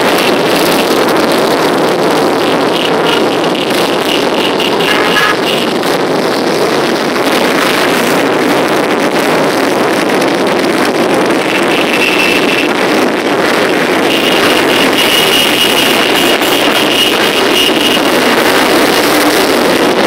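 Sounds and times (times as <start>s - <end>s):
motorcycle engines droning: 0.0s - 20.0s.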